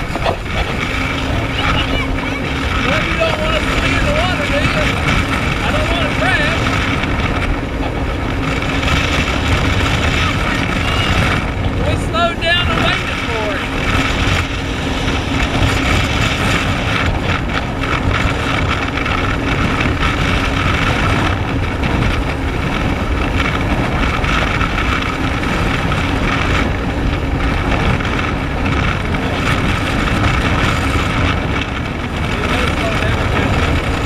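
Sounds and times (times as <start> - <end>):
jet ski engine drone: 0.0 - 34.0
wind noise on microphone: 0.0 - 34.0.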